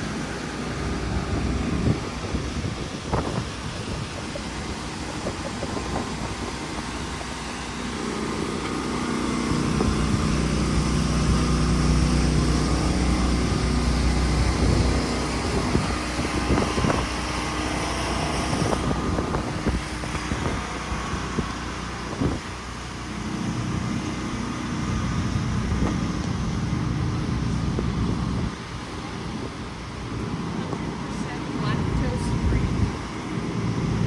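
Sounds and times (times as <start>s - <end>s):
street noise: 0.0s - 34.0s.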